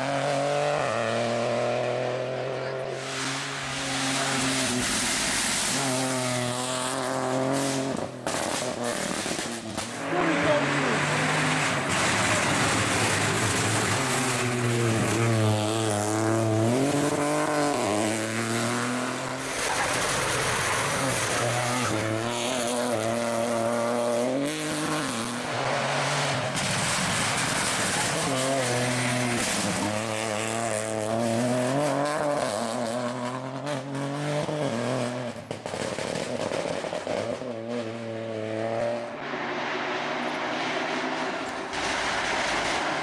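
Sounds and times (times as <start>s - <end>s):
rally car engine revving: 0.0s - 43.0s.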